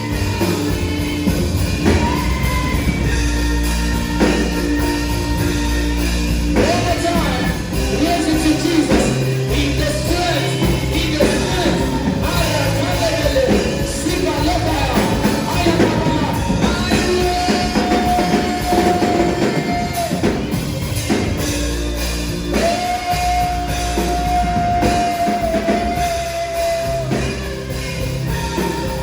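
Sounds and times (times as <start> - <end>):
band playing worship music: 0.0 - 29.0
person singing: 0.0 - 29.0.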